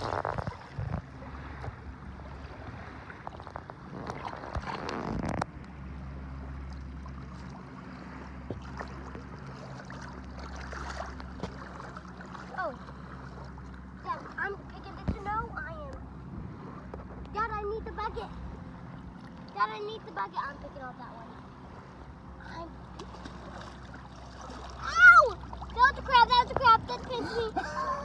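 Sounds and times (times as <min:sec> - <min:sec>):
boat motor humming: 0:00.0 - 0:28.0
water noise: 0:00.0 - 0:28.0
wind: 0:00.0 - 0:28.0.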